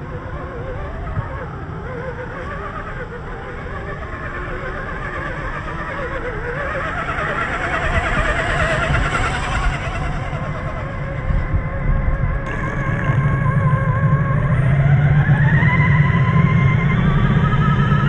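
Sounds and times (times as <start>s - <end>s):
electric motors whining: 0.0s - 18.0s.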